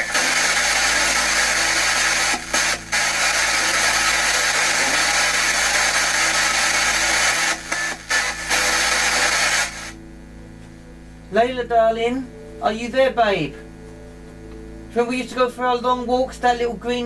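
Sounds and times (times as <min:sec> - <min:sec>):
radio white noise static: 0:00.0 - 0:17.0.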